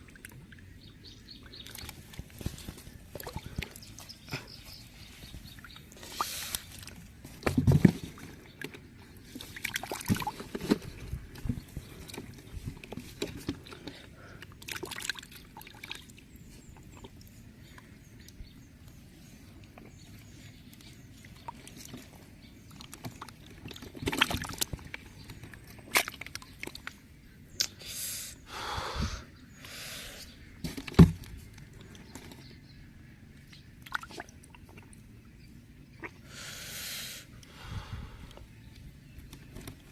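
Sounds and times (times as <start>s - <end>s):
water splashing and sloshing: 0.0s - 27.2s, 30.4s - 36.3s.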